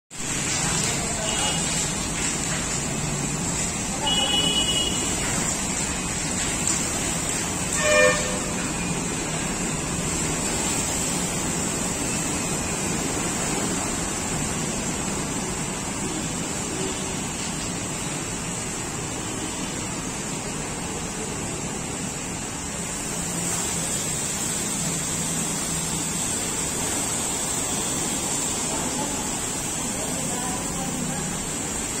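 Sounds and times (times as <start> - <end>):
water jet spraying on metal: 0.1 - 32.0.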